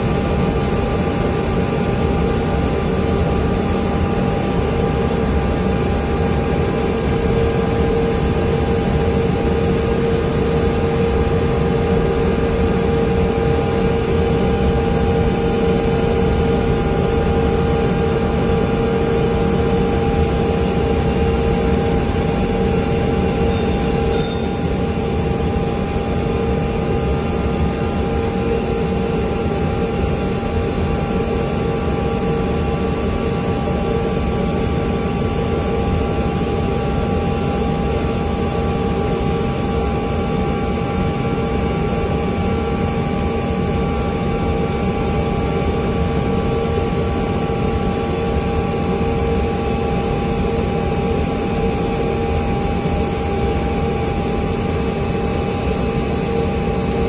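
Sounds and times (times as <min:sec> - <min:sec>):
aircraft cabin engine drone: 0:00.0 - 0:57.0.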